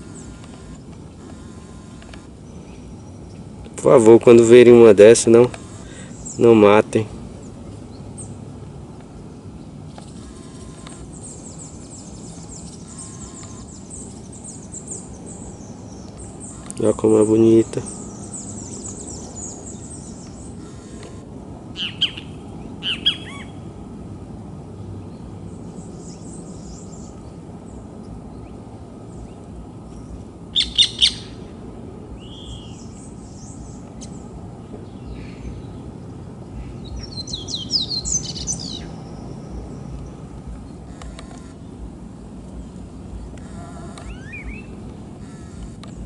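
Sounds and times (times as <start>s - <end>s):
songbird calls: 0.0s - 6.8s, 9.6s - 23.6s, 25.0s - 31.6s, 32.2s - 41.9s, 42.5s - 46.0s
low background noise: 0.0s - 46.0s.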